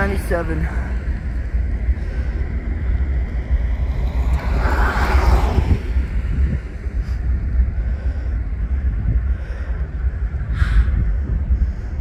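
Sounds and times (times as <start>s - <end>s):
distant diesel locomotives rumbling: 0.0s - 12.0s
wind buffeting microphone: 0.0s - 12.0s.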